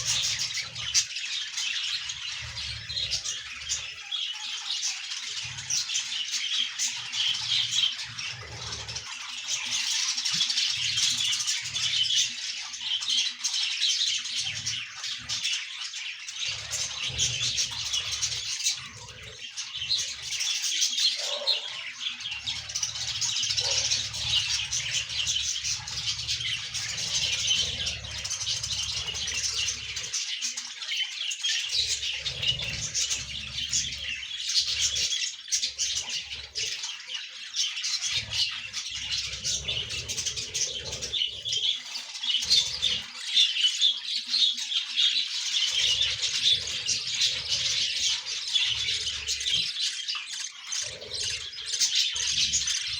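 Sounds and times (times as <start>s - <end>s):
budgerigars chattering: 0.0s - 52.9s.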